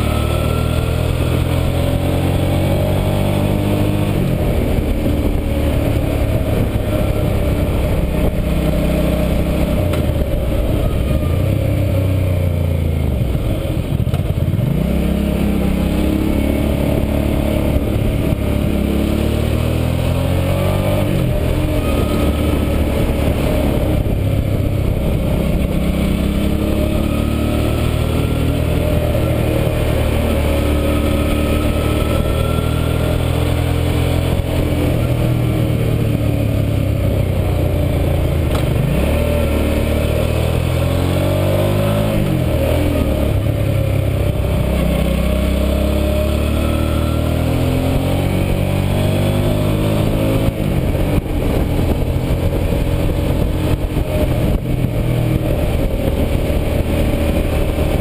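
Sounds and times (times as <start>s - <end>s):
motorcycle engine: 0.0s - 58.0s.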